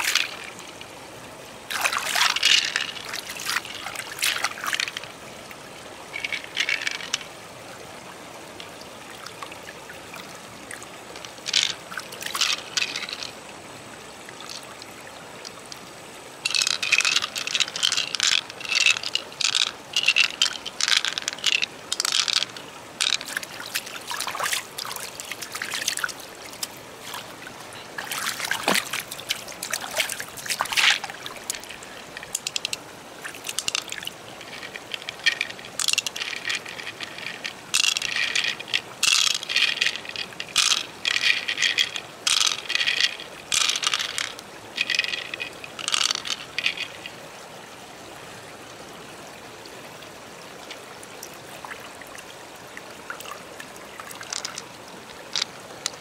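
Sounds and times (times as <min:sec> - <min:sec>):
water splashing and trickling: 0:00.0 - 0:56.0.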